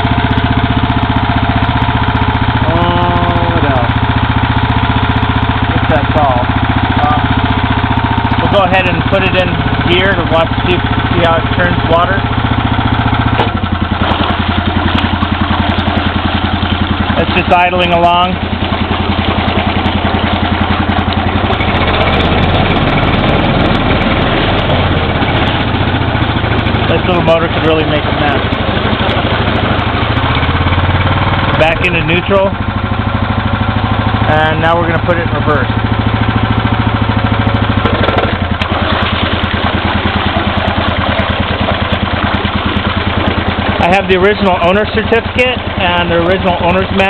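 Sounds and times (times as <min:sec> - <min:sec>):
outboard engine idling: 0:00.0 - 0:47.0
propeller churning water: 0:00.0 - 0:47.0.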